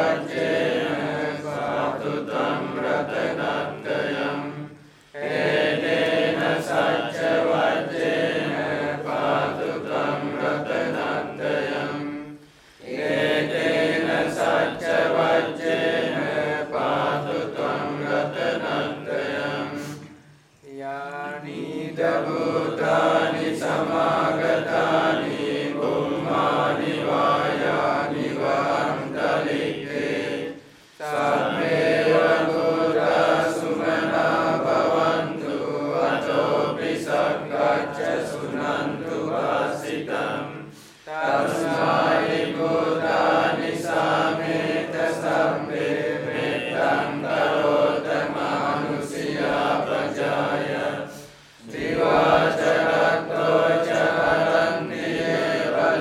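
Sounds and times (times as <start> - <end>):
group chanting devotional verses: 0.0 - 56.0.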